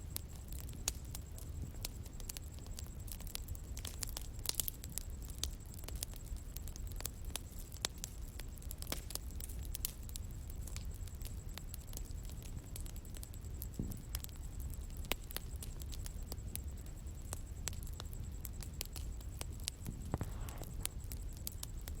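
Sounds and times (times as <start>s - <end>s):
bonfire crackling and popping: 0.0s - 22.0s
low rumble of flames: 0.0s - 22.0s.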